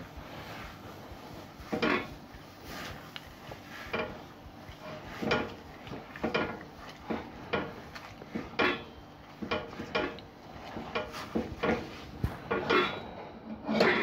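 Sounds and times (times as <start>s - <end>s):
grains stirred scraping and rustling: 0.1s - 8.6s, 9.7s - 13.2s.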